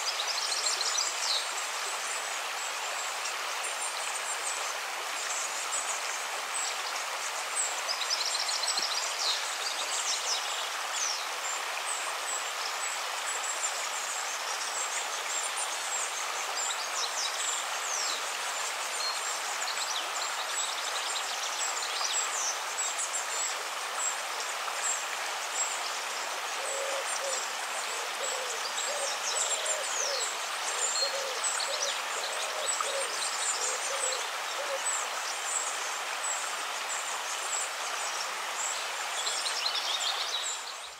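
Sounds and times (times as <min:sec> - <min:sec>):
water rushing: 0:00.0 - 0:40.9.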